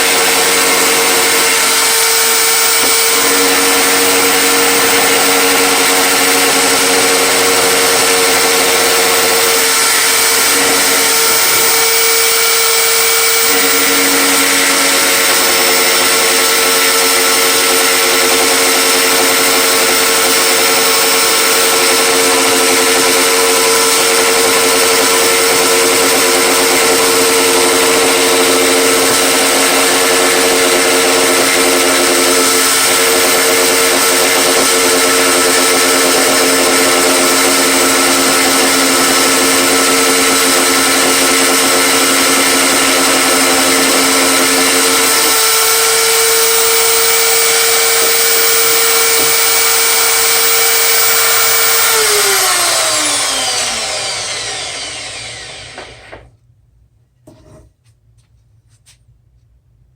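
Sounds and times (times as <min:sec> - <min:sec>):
power tool motor whining: 0:00.0 - 0:56.3.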